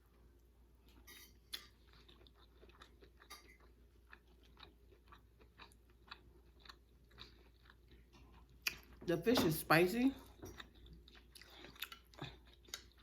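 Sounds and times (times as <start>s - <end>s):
close-up chewing: 0.8s - 9.0s, 10.2s - 13.0s.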